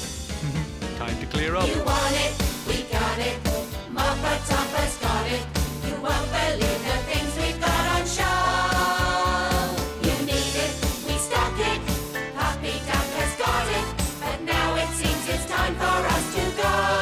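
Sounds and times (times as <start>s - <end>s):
bouncy music with singing voices: 0.0s - 17.0s.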